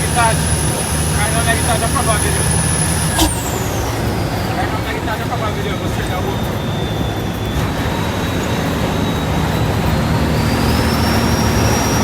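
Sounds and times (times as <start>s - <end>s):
high engine whine: 0.0s - 12.0s
truck diesel engine rumble: 0.0s - 12.0s.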